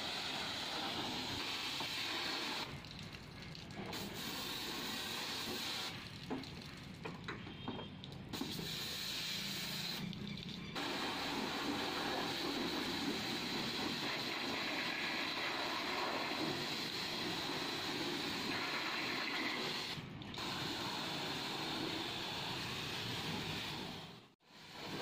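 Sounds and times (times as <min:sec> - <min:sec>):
pressure washer spraying: 0:00.0 - 0:02.7, 0:03.9 - 0:06.1, 0:08.3 - 0:10.1, 0:10.8 - 0:25.0.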